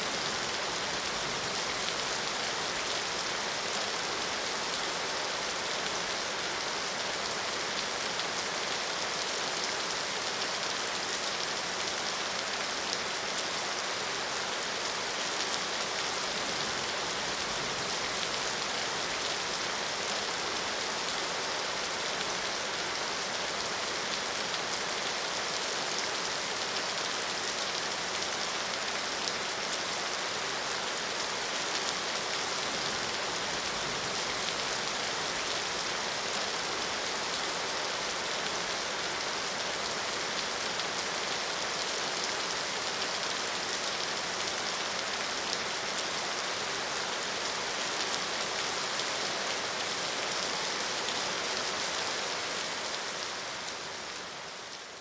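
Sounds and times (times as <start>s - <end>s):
rain spattering on surfaces: 0.0s - 55.0s.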